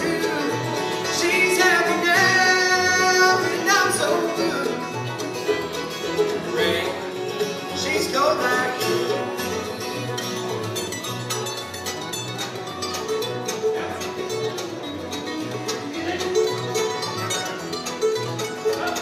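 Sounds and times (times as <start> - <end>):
bluegrass band playing: 0.0 - 19.0.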